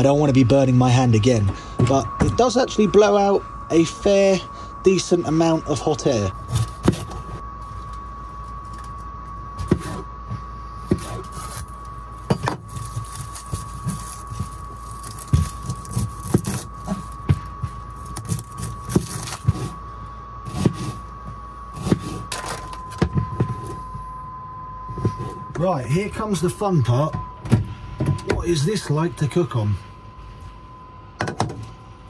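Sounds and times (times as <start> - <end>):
low hum: 0.0 - 32.0
steady high whine: 0.0 - 32.0.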